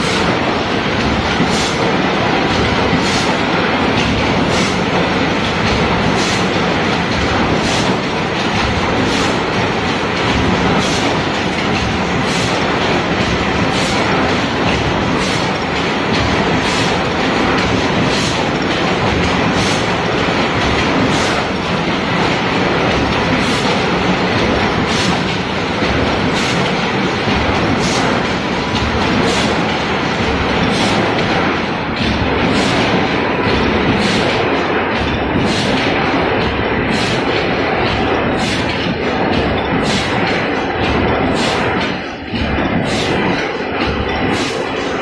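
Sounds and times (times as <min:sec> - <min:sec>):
steady machine noise: 0:00.0 - 0:45.0.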